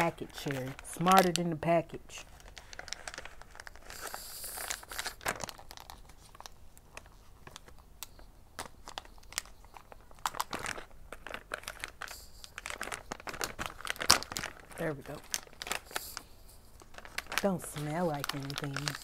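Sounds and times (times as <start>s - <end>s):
plastic wrapper crinkling and tearing: 0.0s - 19.0s.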